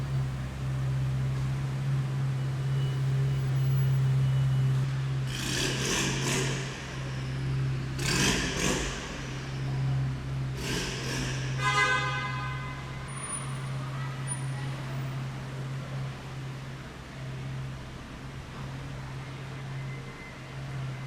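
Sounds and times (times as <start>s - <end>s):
car engine idling: 0.0s - 19.6s.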